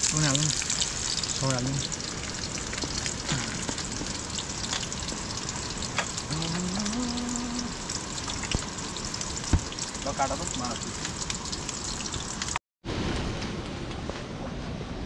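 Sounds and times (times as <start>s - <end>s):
sausages sizzling in a frying pan: 0.0s - 12.6s.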